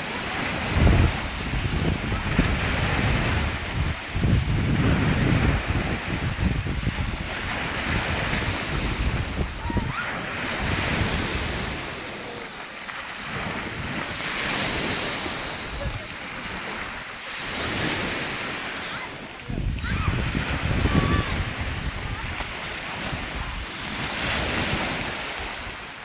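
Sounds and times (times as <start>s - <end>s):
waves washing in: 0.0s - 26.0s
wind on microphone: 0.0s - 26.0s.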